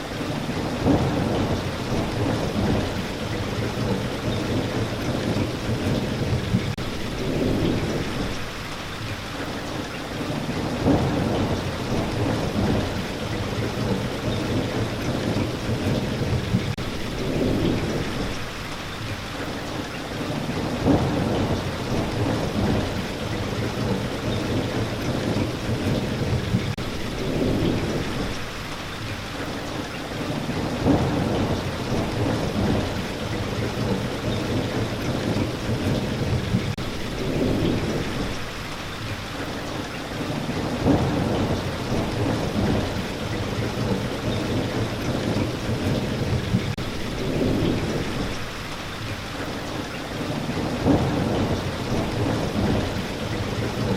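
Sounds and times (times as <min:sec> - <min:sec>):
steady rain falling: 0:00.0 - 0:53.9
low thunder rumbling: 0:00.4 - 0:08.7, 0:10.3 - 0:18.6, 0:20.3 - 0:28.7, 0:30.3 - 0:38.8, 0:40.2 - 0:49.1, 0:50.1 - 0:53.9.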